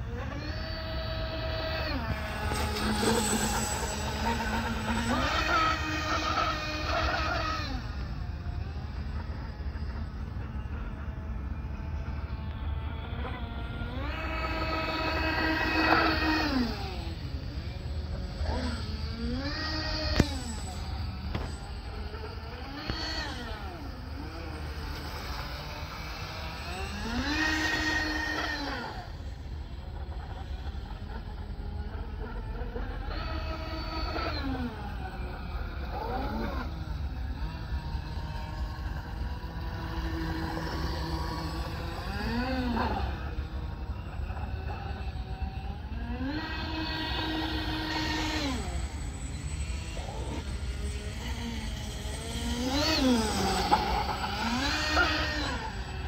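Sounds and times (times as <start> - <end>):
model boat motors whining: 0.0 - 56.0.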